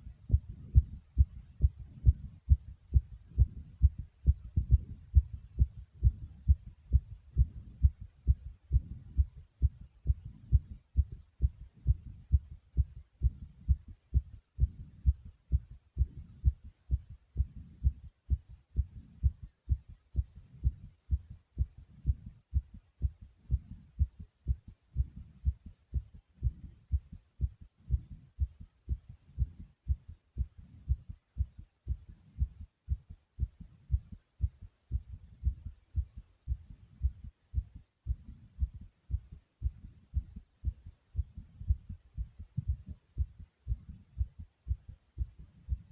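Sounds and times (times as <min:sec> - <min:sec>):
fast heartbeat thumps: 0:00.0 - 0:45.9.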